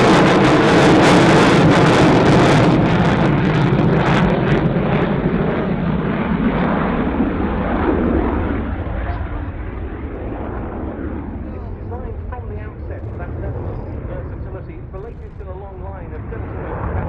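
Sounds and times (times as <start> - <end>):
jet roar with crackle: 0.0 - 17.0.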